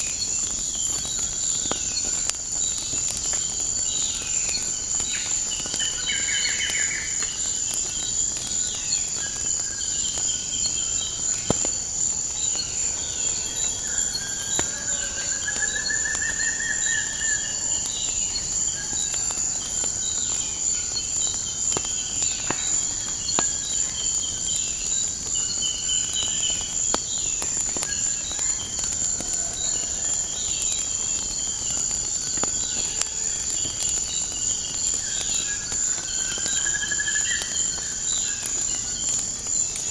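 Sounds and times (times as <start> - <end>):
crickets and insects chirring: 0.0 - 39.9
wood fire crackling: 0.0 - 39.9.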